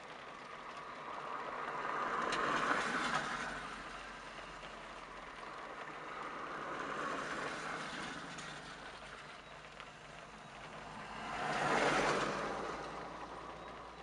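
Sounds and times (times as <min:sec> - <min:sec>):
distant jet engine roar: 0:00.0 - 0:14.0.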